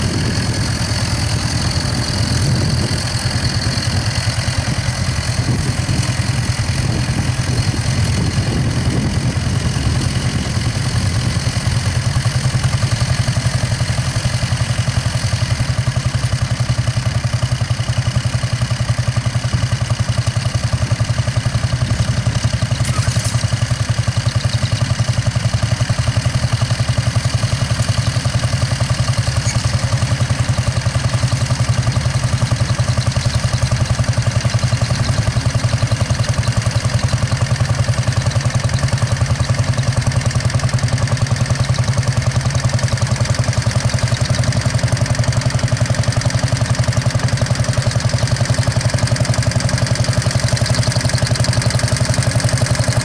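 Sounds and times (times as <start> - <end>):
tractor engine running under load: 0.0 - 53.0.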